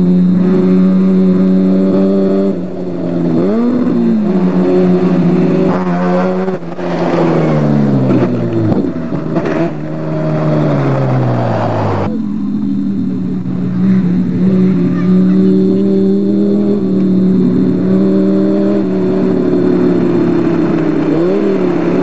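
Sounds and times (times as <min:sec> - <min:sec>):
race car engine revving: 0:00.0 - 0:22.0
steady droning hum: 0:00.0 - 0:22.0.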